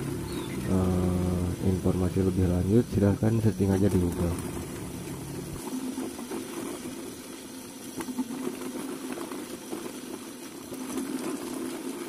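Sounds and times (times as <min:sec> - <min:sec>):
electric chopper motor hum: 0:00.0 - 0:12.0.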